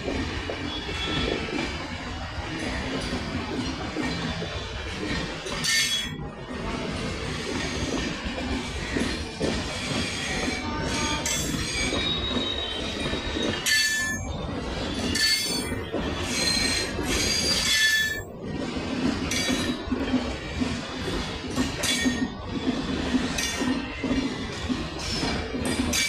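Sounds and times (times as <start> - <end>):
train rattles: 0.0 - 26.0
train wheels rumbling on rails: 0.0 - 26.0.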